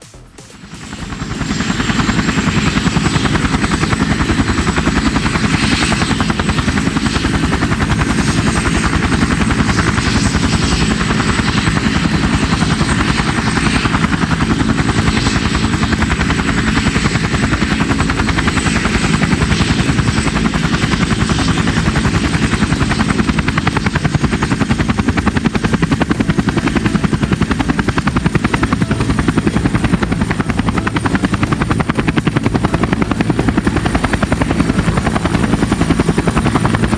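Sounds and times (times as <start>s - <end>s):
helicopter rotor blades chopping: 0.0s - 36.9s
high whine: 0.0s - 36.9s.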